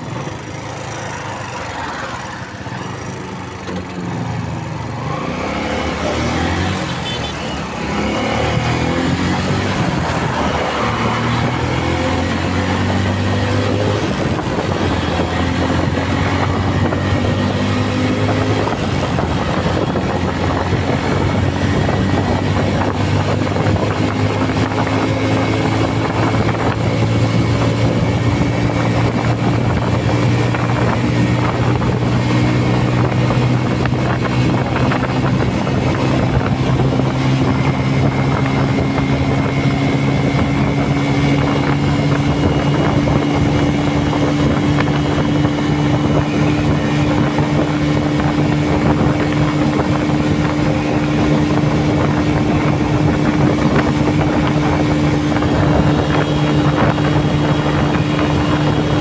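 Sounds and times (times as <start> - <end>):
motorcycle engine accelerating: 0.0 - 59.0
wind rushing over microphone: 0.0 - 59.0.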